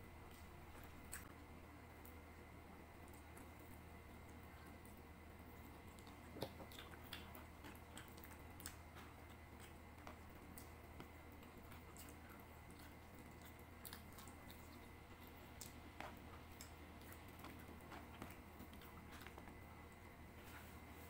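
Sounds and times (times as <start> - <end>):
eating with fingers clicks and smacks: 0.2 - 21.0.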